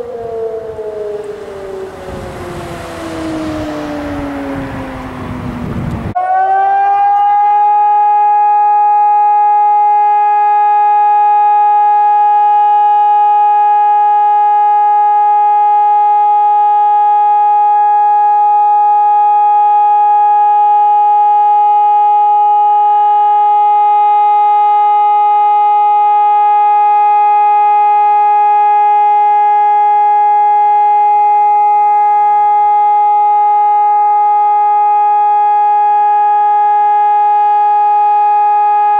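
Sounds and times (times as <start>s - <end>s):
civil defence siren steady tone: 0.0s - 38.9s.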